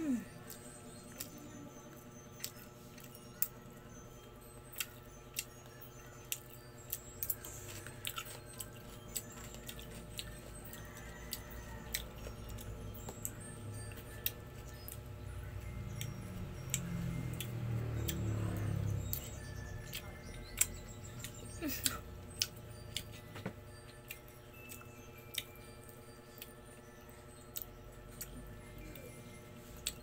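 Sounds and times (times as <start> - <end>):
person chewing food: 0.4 - 3.6, 4.7 - 26.6, 27.4 - 30.0.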